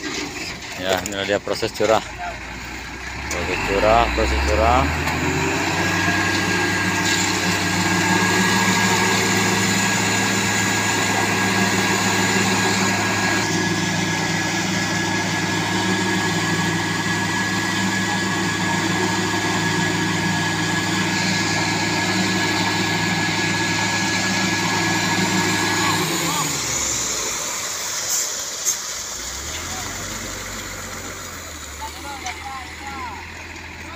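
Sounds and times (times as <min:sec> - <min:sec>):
diesel engine running: 0:00.0 - 0:33.9
concrete pouring down chute: 0:03.4 - 0:33.9.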